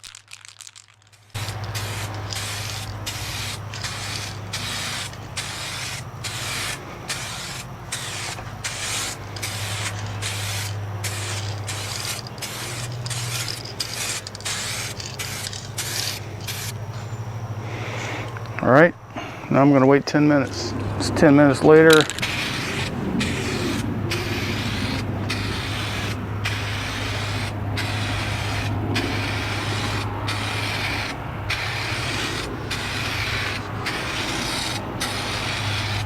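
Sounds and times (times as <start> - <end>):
aerosol can spraying in bursts: 1.3 - 16.9, 21.9 - 36.0.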